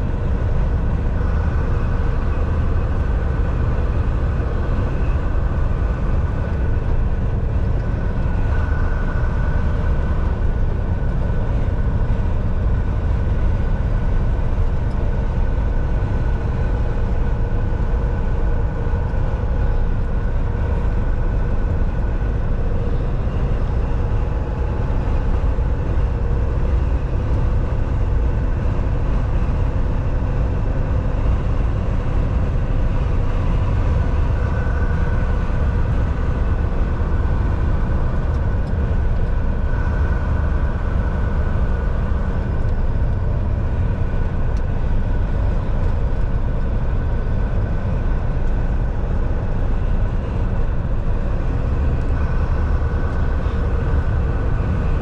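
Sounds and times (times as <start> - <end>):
faint steady whine: 0.0 - 55.0
truck engine and road rumble: 0.0 - 55.0.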